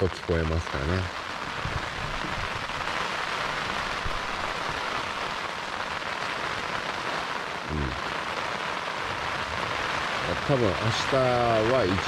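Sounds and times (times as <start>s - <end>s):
rain pattering on a tent: 0.0s - 12.0s.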